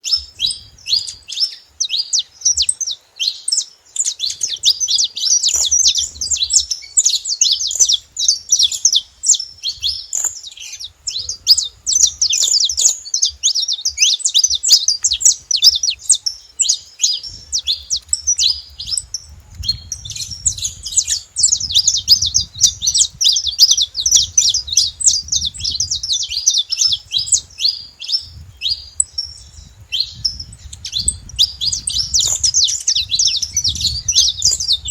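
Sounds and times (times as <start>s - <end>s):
finches chirping and singing: 0.0s - 34.9s.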